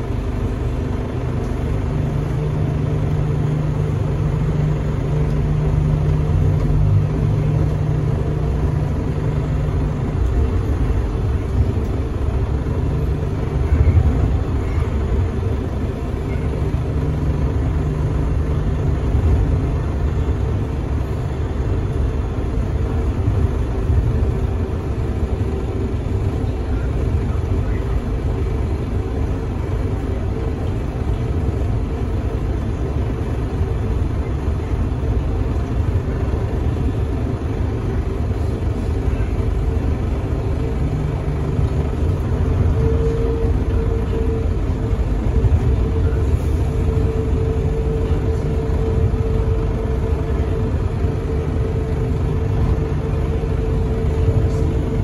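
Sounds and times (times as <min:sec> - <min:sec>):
faint motor whine: 0:00.0 - 0:55.0
people mover rumbling: 0:01.5 - 0:55.0.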